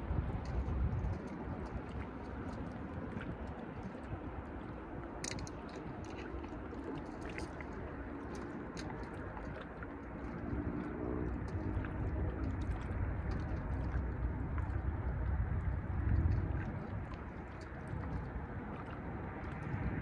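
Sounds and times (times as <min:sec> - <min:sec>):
faint hums: 0:00.0 - 0:20.0
low rumble: 0:00.0 - 0:20.0
outdoor background noise: 0:00.0 - 0:20.0.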